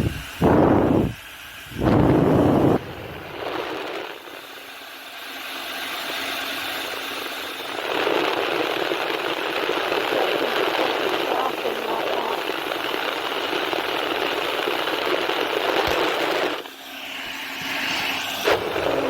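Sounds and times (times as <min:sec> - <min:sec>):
faint motor hum: 0:00.0 - 0:19.0
hair dryer blowing: 0:00.0 - 0:19.0.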